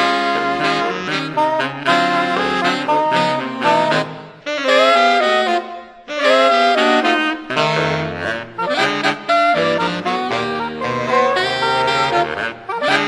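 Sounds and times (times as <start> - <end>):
saxophone quartet playing jazz: 0.0 - 13.0.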